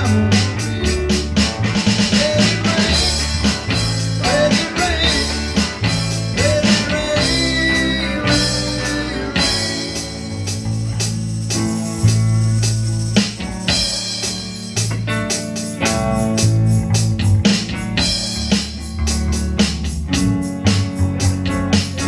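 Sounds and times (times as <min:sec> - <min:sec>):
bass: 0:00.0 - 0:22.0
drum kit beat: 0:00.0 - 0:22.0
electric guitar: 0:00.0 - 0:22.0.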